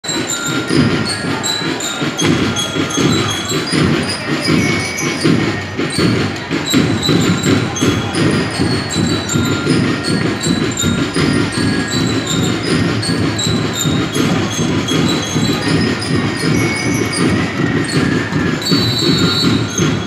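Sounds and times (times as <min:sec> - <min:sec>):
drums beating: 0:00.0 - 0:20.0
high melodic notes: 0:00.0 - 0:20.0.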